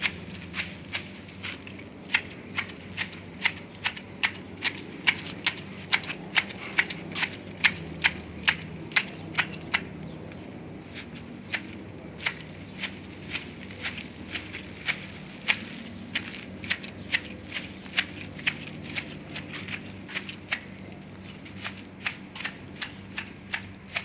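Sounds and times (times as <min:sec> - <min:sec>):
pruning shears snipping twigs: 0:00.0 - 0:24.0.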